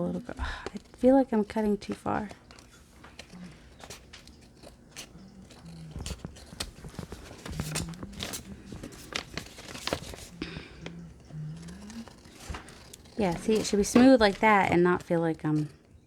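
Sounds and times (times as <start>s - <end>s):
paper rustling: 0.4s - 15.7s
scissors snipping paper: 0.4s - 15.7s.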